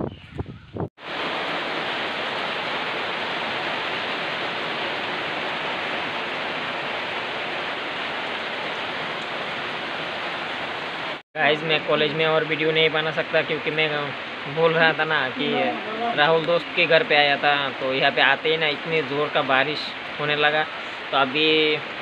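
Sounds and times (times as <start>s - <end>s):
heavy rain falling: 1.0s - 22.0s.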